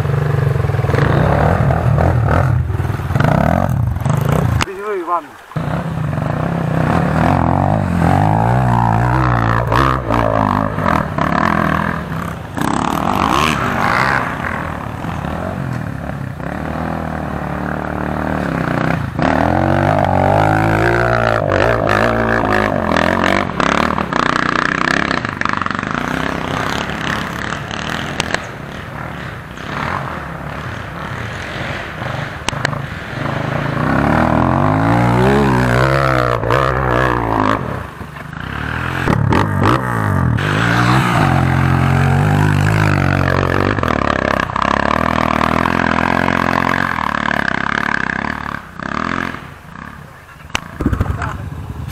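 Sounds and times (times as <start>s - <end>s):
bike passing close: 0.0s - 51.9s
dirt bike engines revving: 0.0s - 51.9s.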